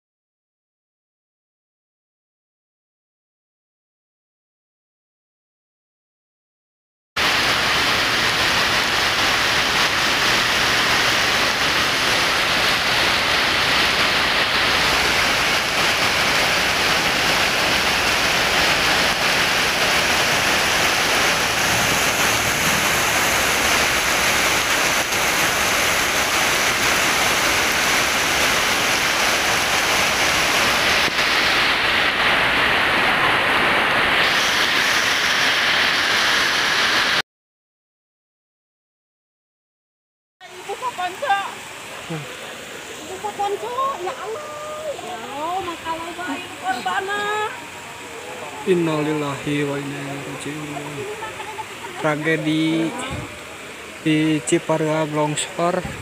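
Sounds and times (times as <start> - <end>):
floodwater rushing down a street: 7.2 - 37.2, 40.4 - 56.0.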